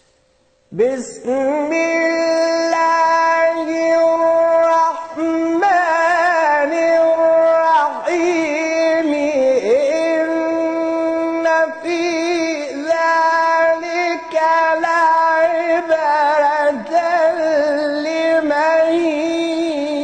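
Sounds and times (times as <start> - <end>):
person reciting melodically: 0.7 - 20.0.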